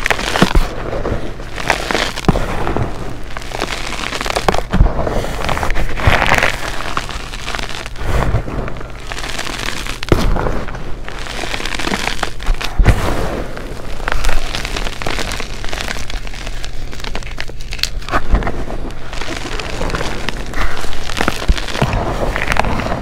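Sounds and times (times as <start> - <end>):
chalk crunching in hands: 0.0 - 23.0.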